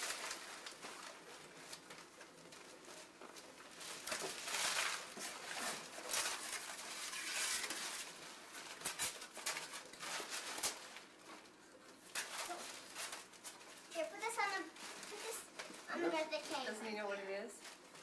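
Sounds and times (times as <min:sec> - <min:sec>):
packing rustling: 0:00.0 - 0:16.8
wrapping paper tearing: 0:00.0 - 0:16.8.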